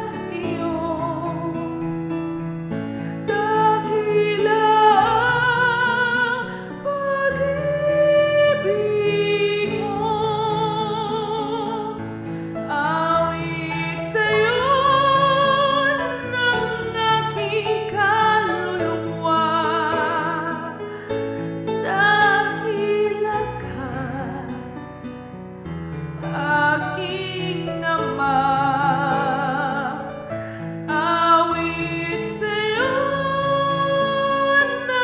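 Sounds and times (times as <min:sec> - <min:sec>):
woman singing worship song: 0:00.0 - 0:01.6, 0:03.2 - 0:12.0, 0:12.7 - 0:20.9, 0:21.8 - 0:24.7, 0:26.3 - 0:30.1, 0:30.8 - 0:35.0.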